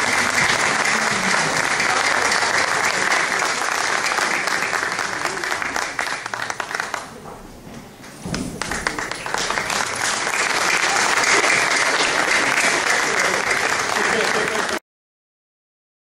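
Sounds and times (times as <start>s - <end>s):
crowd applauding: 0.0s - 7.3s, 8.6s - 14.8s.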